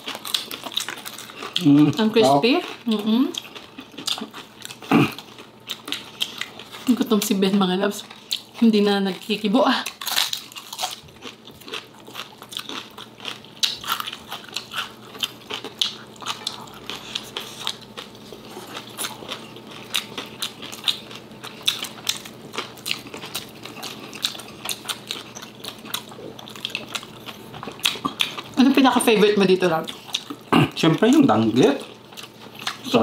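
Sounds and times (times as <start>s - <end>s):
people chewing food: 0.0s - 33.0s.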